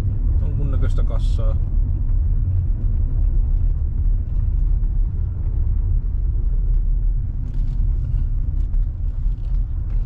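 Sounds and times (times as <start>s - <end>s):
car driving rumble inside cabin: 0.0s - 10.0s.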